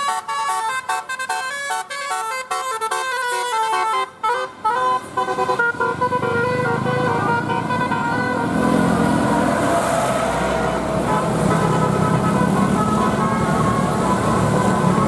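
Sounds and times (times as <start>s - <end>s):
bus horn melody: 0.0s - 15.0s
road noise: 0.0s - 15.0s
engine rumble: 0.7s - 15.0s.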